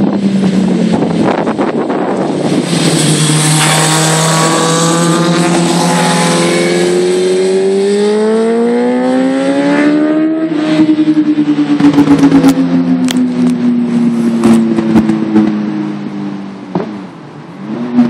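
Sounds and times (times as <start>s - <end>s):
sport bike engine revving: 0.5s - 15.4s.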